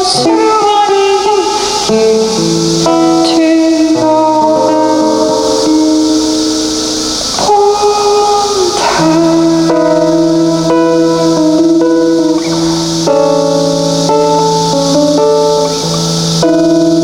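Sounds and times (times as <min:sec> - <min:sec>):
live band playing held chords: 0:00.0 - 0:17.0
steady high hiss: 0:00.0 - 0:17.0.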